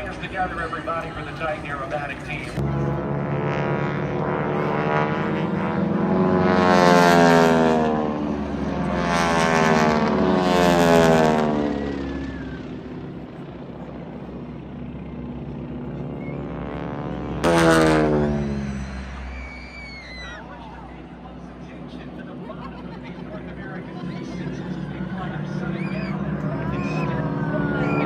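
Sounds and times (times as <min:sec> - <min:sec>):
propeller aircraft flying low past: 0:00.0 - 0:28.0.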